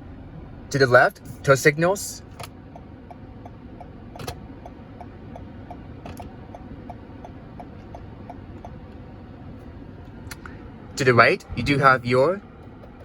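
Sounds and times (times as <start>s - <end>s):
turn signal ticking: 1.7s - 13.0s.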